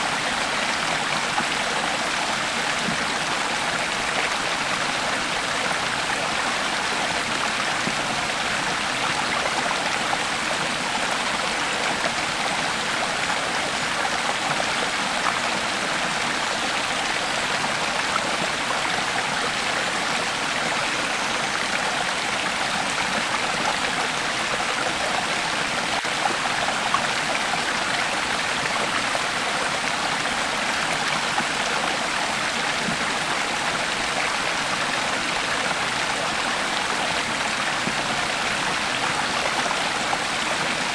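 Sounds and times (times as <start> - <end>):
creek water flowing over rocks: 0.0 - 40.9.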